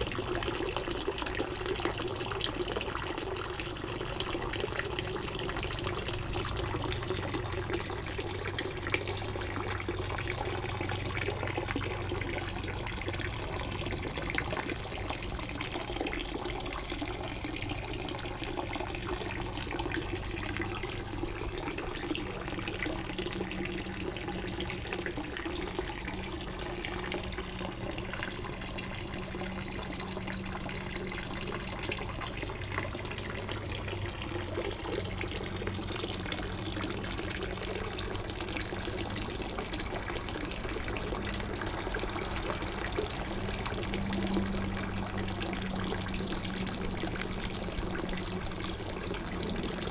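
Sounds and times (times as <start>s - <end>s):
fountain water trickling into pond: 0.0s - 49.9s.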